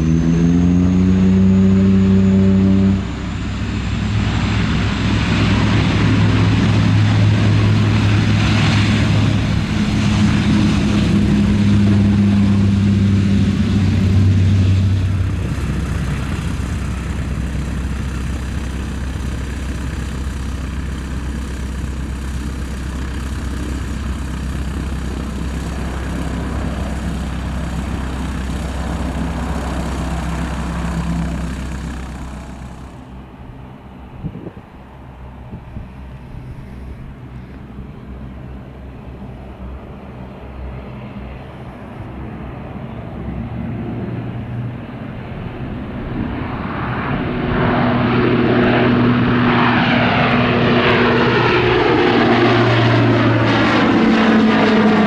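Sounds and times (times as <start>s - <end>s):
aircraft engine rumble: 0.0s - 55.0s
turboprop aircraft propeller drone: 0.0s - 55.0s.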